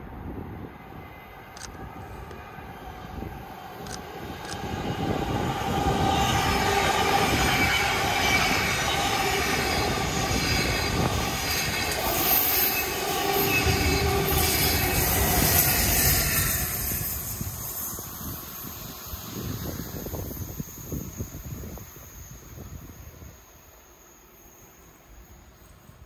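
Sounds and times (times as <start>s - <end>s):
train passing rumble: 0.0s - 26.0s.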